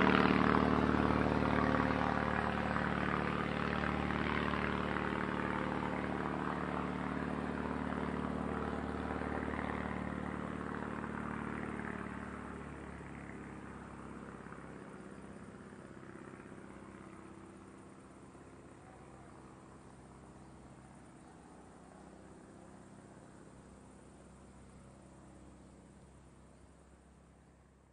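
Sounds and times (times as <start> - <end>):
propeller plane engine droning: 0.0 - 27.9.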